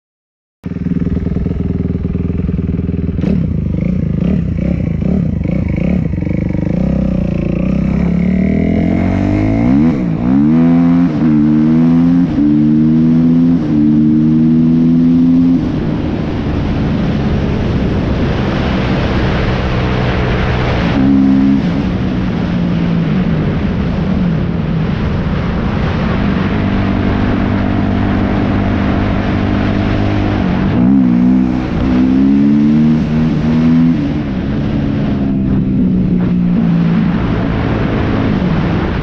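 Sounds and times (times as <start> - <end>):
motorcycle engine revving: 0.6 - 39.0.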